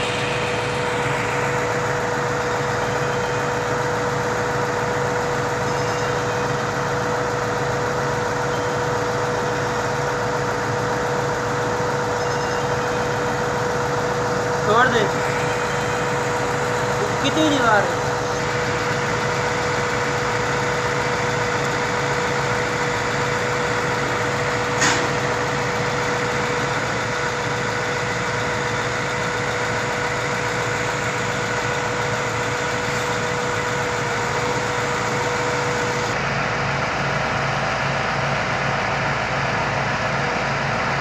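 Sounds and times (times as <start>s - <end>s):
steady hum: 0.0s - 36.2s
diesel engine running: 0.0s - 41.0s.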